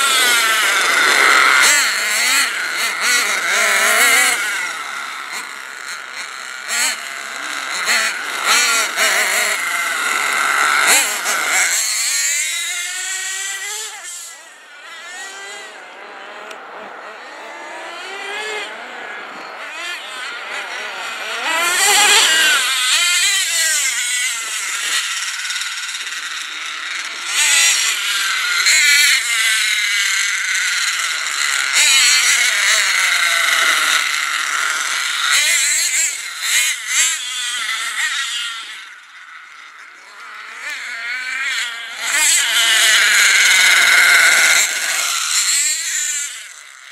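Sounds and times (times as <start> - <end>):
toy truck engines revving: 0.0 - 46.9.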